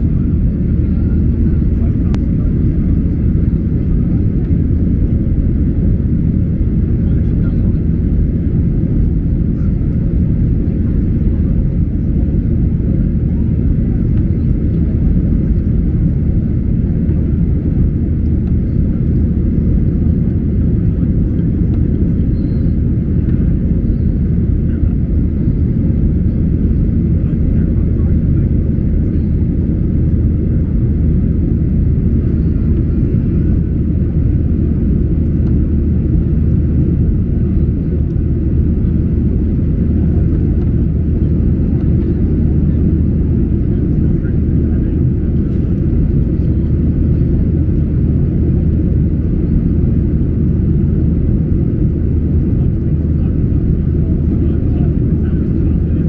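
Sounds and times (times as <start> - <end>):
airplane cabin engine drone: 0.0 - 56.0.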